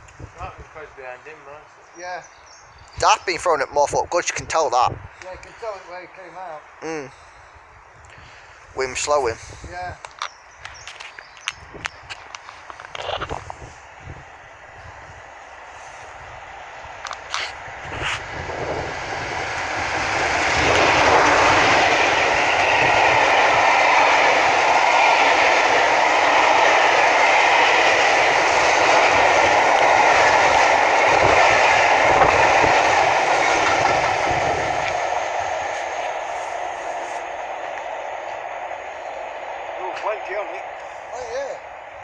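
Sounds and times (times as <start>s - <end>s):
diesel train passing: 0.0s - 42.0s.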